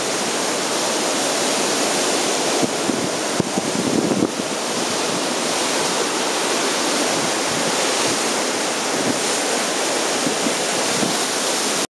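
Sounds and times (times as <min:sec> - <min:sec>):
ocean surf breaking on rocks: 0:00.0 - 0:11.9.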